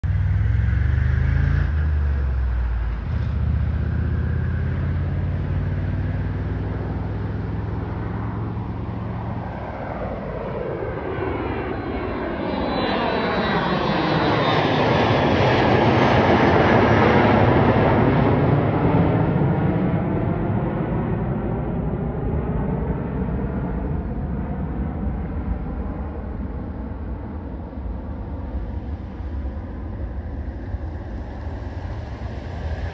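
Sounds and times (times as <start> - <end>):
jet engines climbing overhead: 0.0 - 32.9.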